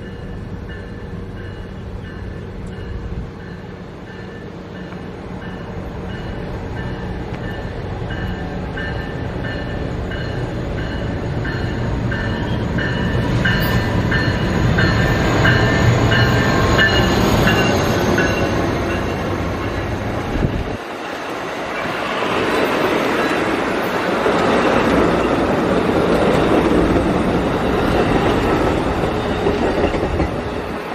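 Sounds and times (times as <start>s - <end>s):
train bell ringing: 0.0s - 25.8s, 27.4s - 30.9s
train cars rushing and clattering: 0.0s - 30.9s
train engine rumble: 0.0s - 30.9s.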